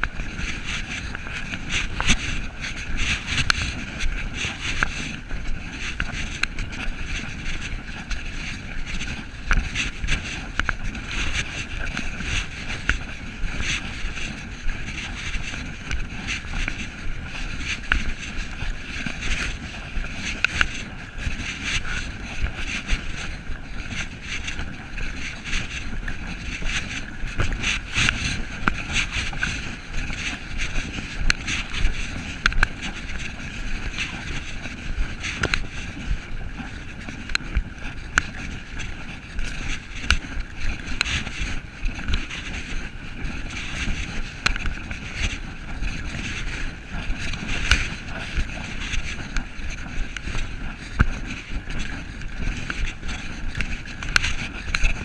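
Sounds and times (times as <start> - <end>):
microphone rubbing: 0.0 - 55.0
wind on microphone: 0.0 - 55.0.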